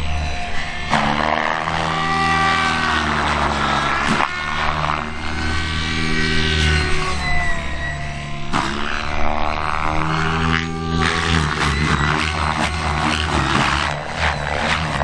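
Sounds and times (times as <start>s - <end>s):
model helicopter rotor whine: 0.0s - 15.0s.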